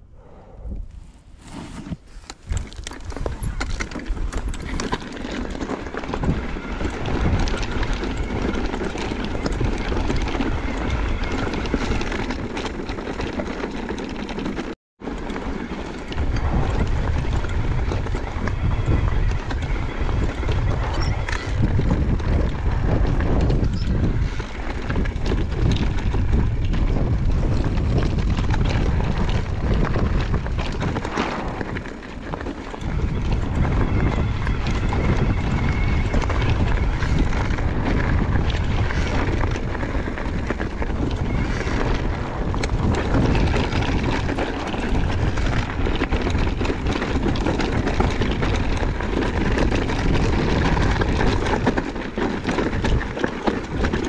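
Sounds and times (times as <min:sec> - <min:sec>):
wind buffeting microphone: 0:00.0 - 0:13.9, 0:14.6 - 0:54.0
bike rattling: 0:01.0 - 0:54.0.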